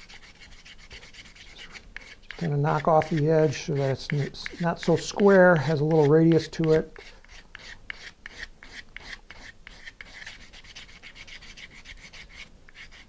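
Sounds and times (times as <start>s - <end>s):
sandpaper rubbing on wood: 0.0s - 13.0s.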